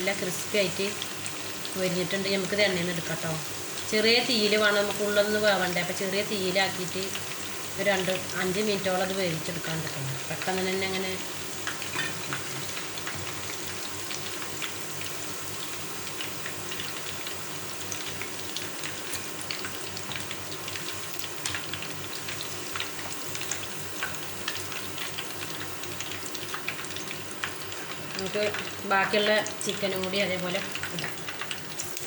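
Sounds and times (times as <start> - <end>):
food deep-frying in oil: 0.0 - 32.0.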